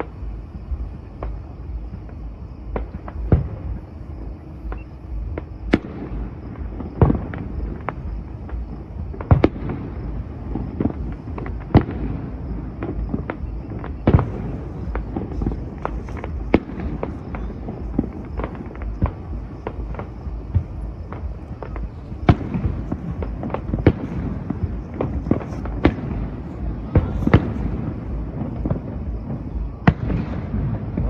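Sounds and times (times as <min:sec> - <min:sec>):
fireworks bangs: 0:00.0 - 0:31.0
steady low rumble: 0:00.0 - 0:31.0.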